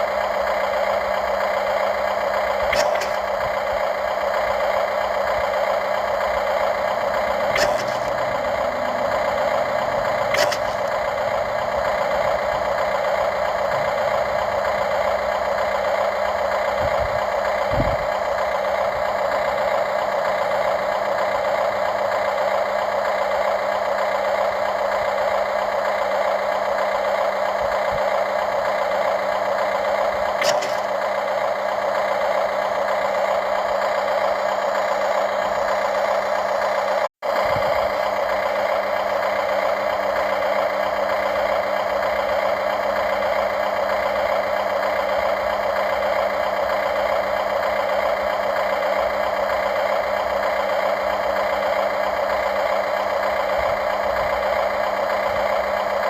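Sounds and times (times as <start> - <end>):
model machine motor whine: 0.0 - 56.0.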